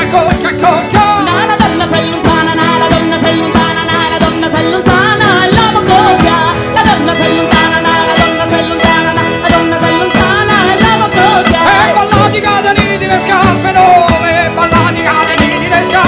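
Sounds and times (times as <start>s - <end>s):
folk band playing live: 0.0s - 16.0s
woman singing: 0.0s - 16.0s.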